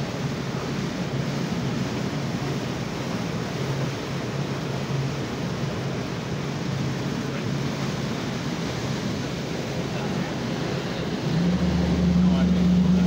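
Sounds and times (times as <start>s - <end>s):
outboard motor running: 0.0s - 13.0s
rushing water: 0.0s - 13.0s
wind: 0.0s - 13.0s.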